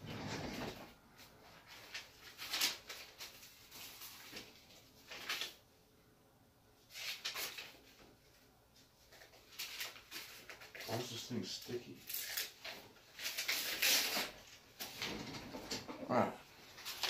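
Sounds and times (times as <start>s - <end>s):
handling and rustling noises: 0.0s - 5.7s, 6.9s - 17.0s.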